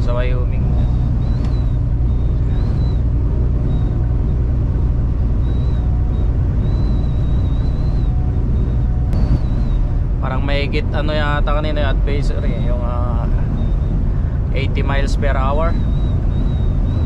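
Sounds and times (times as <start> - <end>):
high wind whistle: 0.0 - 17.0
truck engine and road rumble: 0.0 - 17.0.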